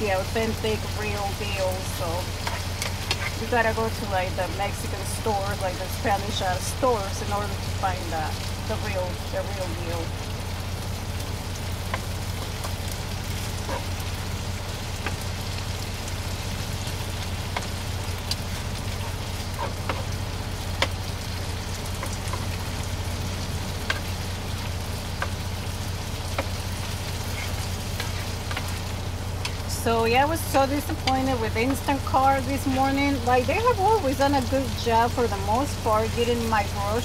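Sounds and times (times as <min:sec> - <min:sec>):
constant low hum: 0:00.0 - 0:37.0
meat sizzling in a pan: 0:00.0 - 0:37.0.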